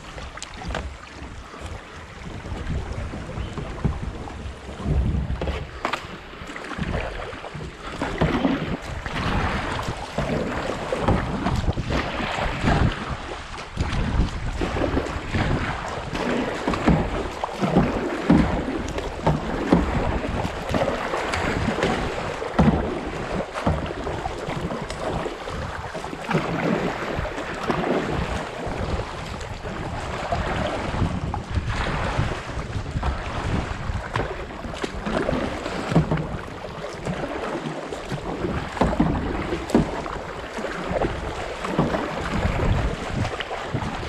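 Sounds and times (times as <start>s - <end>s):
creek water rushing and splashing: 0.0s - 44.0s
wind buffeting microphone: 0.0s - 44.0s.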